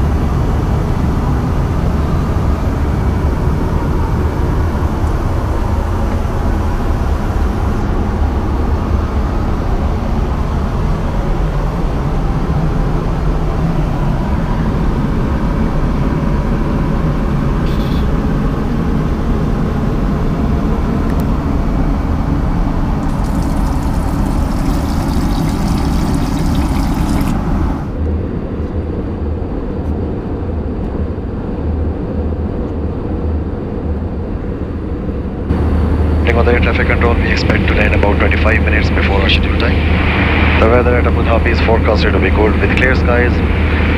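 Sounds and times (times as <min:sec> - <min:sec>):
airliner cabin engine drone: 0:00.0 - 0:43.9.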